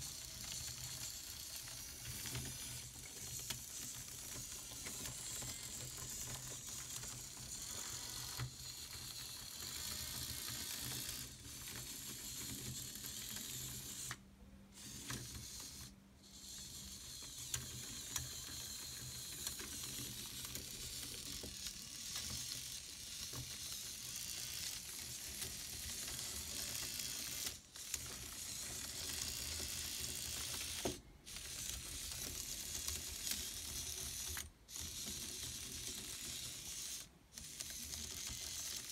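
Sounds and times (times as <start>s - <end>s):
small gearmotors whirring: 0.0s - 38.9s.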